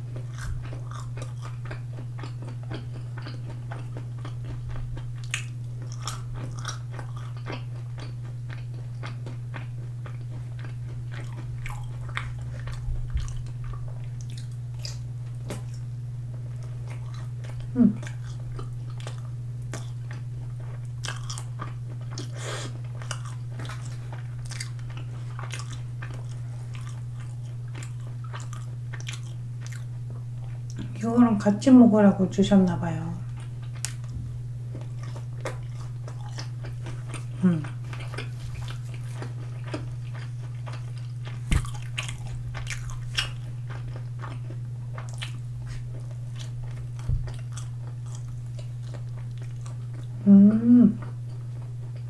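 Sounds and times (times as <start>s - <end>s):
close chewing and crunching: 0.0s - 31.0s, 33.2s - 52.0s
low steady hum: 0.0s - 52.0s.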